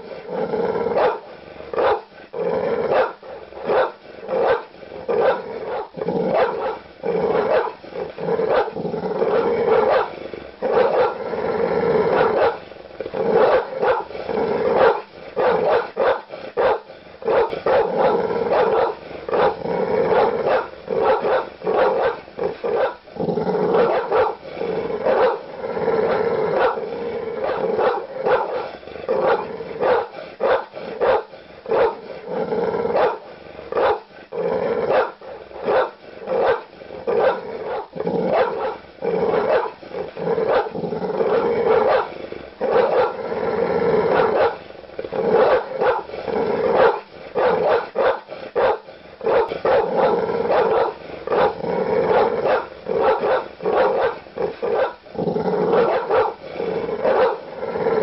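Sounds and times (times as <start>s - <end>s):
large dogs barking aggressively: 0.0s - 58.0s.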